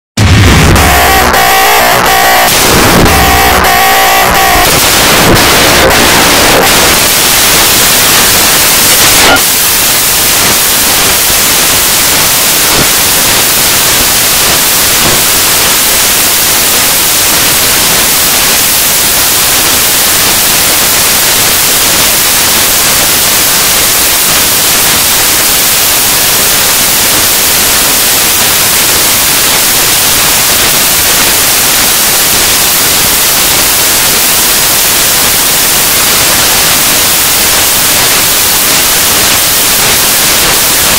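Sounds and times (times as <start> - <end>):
static crackle: 0.0 - 40.9
static hiss: 0.2 - 40.9.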